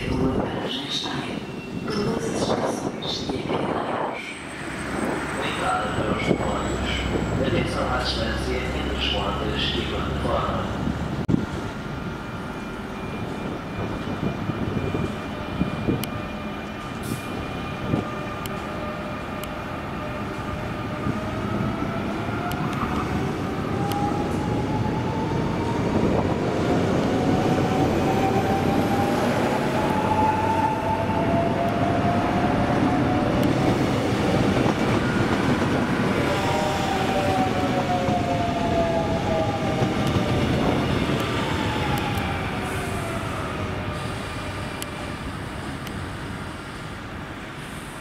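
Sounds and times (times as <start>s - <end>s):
rising train whine: 0.0s - 48.0s.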